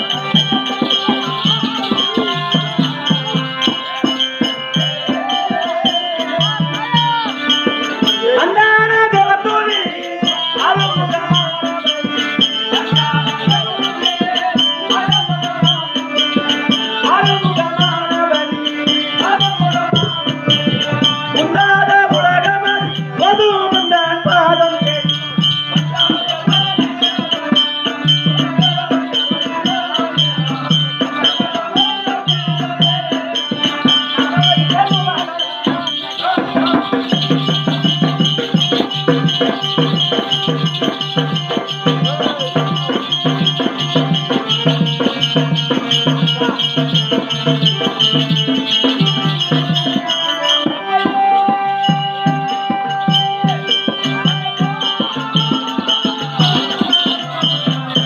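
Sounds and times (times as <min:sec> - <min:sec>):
person singing: 0:00.0 - 0:58.0
rattling percussion: 0:00.0 - 0:58.0.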